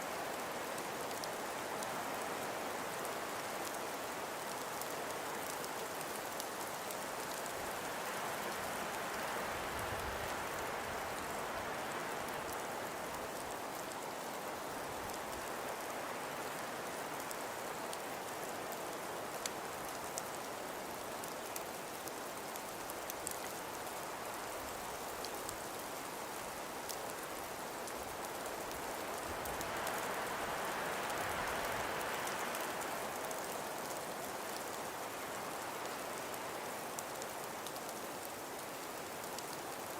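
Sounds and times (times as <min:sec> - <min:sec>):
wind and blowing snow hiss: 0:00.0 - 0:39.9.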